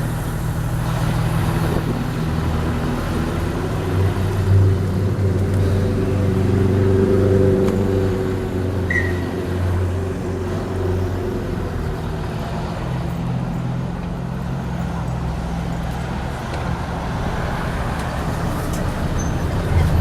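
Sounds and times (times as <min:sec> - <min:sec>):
bus engine running: 0:00.0 - 0:20.0
road and body noise: 0:00.0 - 0:20.0.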